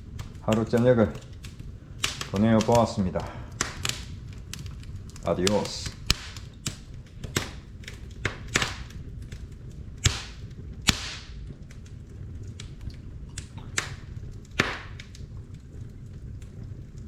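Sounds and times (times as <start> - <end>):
low rumble: 0.0 - 17.0
wood fire crackling and popping: 0.0 - 17.0.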